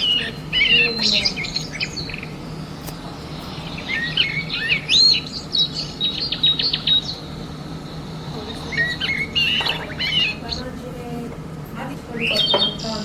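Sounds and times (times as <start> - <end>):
small birds chirping: 0.0 - 11.2, 11.8 - 13.0
faint low hum: 0.0 - 13.0.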